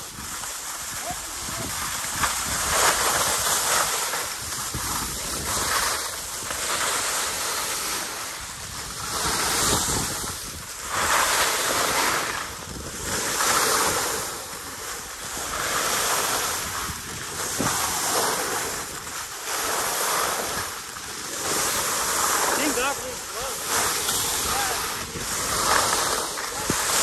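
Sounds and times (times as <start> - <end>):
skis scraping on snow: 0.0 - 27.0
wind rushing over microphone: 0.0 - 27.0.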